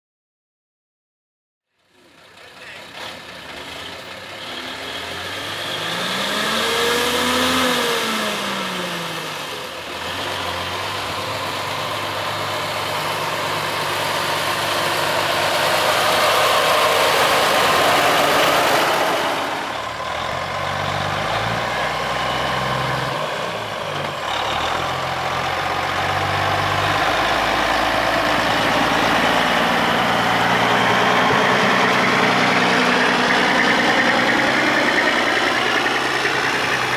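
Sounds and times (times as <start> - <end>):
truck engines idling: 1.8 - 36.9
engine revving: 2.6 - 36.9.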